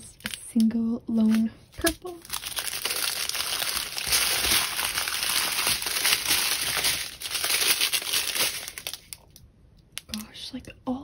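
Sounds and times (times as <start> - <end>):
plastic packets crinkling: 0.0 - 9.4.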